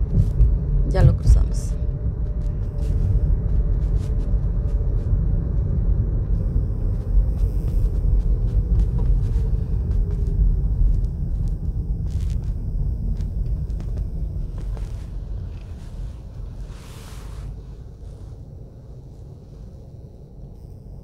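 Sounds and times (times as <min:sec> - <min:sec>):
car cabin road rumble: 0:00.0 - 0:19.2.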